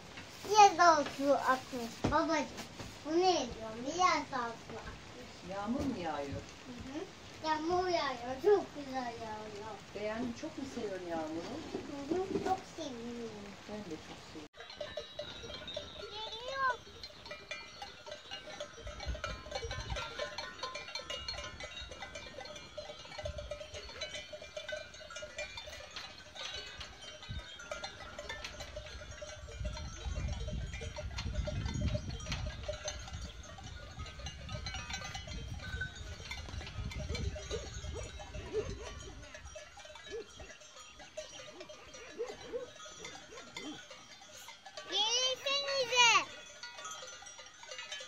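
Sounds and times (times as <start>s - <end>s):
goat bells clanking: 0.1s - 48.0s.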